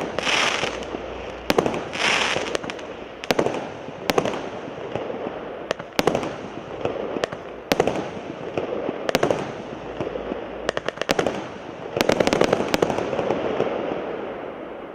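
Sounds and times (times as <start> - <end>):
crackling hiss: 0.0 - 14.9
firework reports: 0.0 - 14.9.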